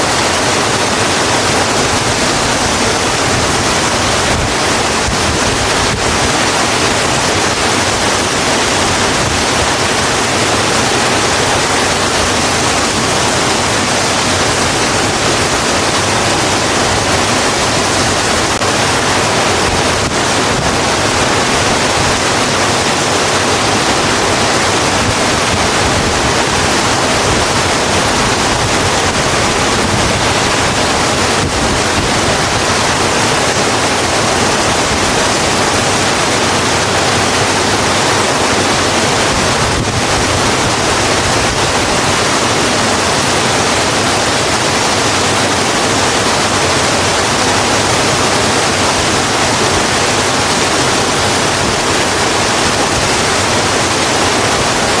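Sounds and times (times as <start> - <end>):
heavy rain falling on a road: 0.0 - 55.0.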